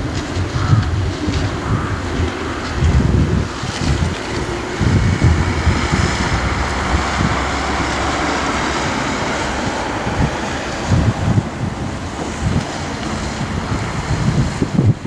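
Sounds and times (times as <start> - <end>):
freight train running: 0.0 - 15.0
wind buffeting microphone: 0.0 - 15.0.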